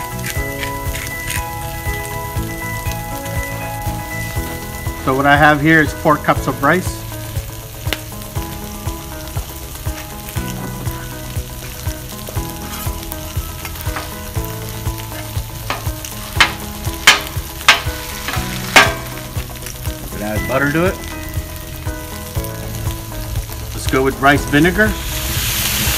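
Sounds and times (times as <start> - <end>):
meat sizzling on griddle: 0.0 - 25.9.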